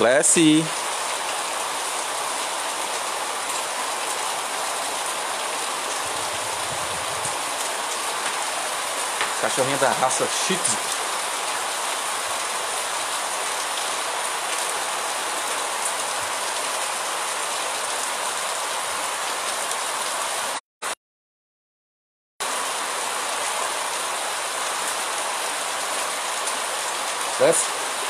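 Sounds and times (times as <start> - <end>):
steady rain falling: 0.0 - 20.6, 22.4 - 28.0.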